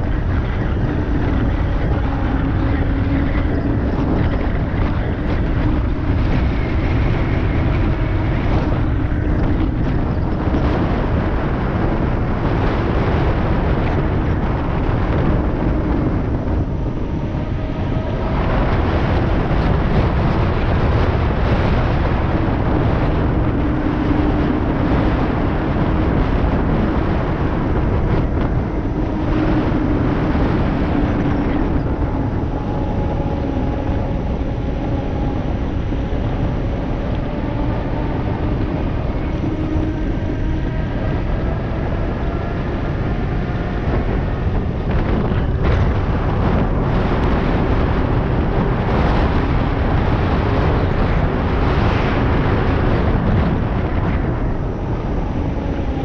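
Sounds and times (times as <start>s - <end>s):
tyre humming on asphalt: 0.0s - 56.0s
wind rush on microphone: 0.0s - 56.0s.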